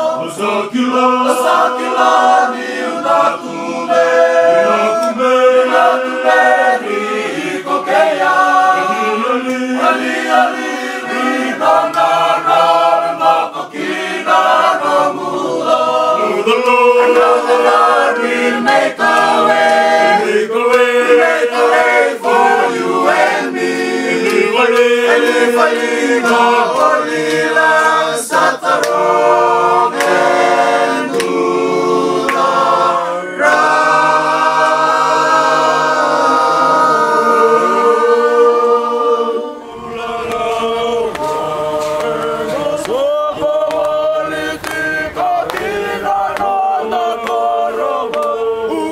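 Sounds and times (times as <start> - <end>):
male voices singing a cappella: 0.0 - 48.9.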